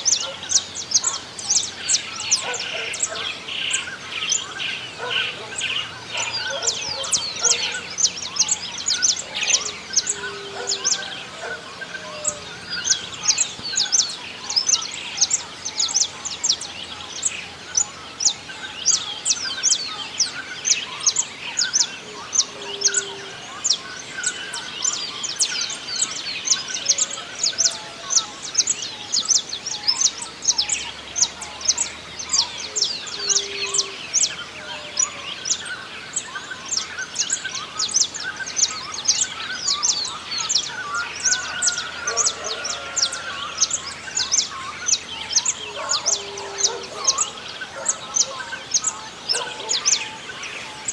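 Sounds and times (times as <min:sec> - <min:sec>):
birds warbling: 0:00.0 - 0:50.9.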